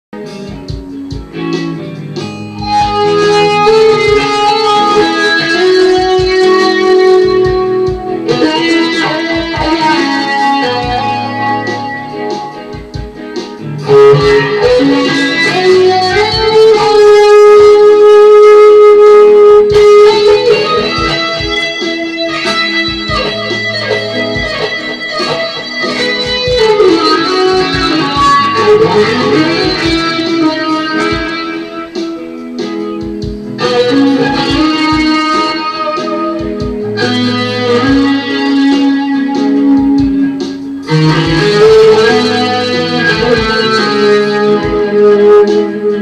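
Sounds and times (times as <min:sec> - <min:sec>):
electric guitar lead melody: 0:00.2 - 0:46.0.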